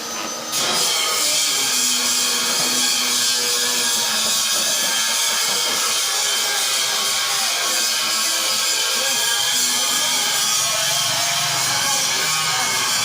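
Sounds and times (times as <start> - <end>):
machine running with hiss: 0.0 - 13.0.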